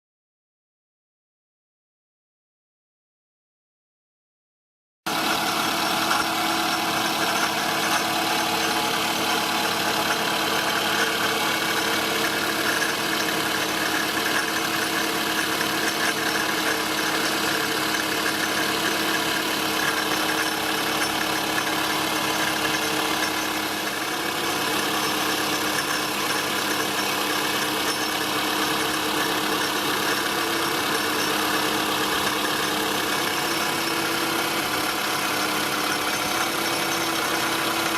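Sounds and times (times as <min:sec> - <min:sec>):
accessory drive rattle: 0:05.1 - 0:37.9
car engine idling: 0:05.1 - 0:37.9.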